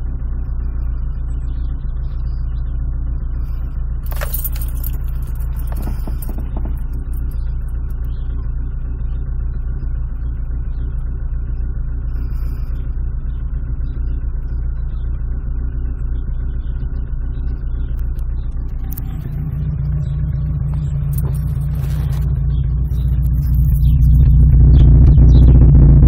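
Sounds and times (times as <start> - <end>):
car engine running with a miss: 0.0 - 26.0.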